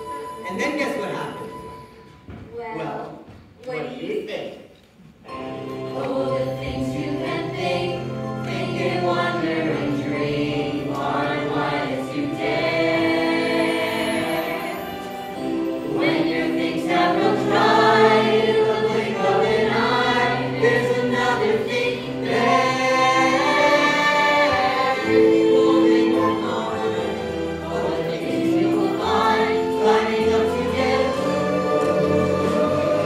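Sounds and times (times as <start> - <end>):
musical accompaniment: 0.0 - 2.6, 4.8 - 33.0
chorus of voices singing: 5.4 - 33.0.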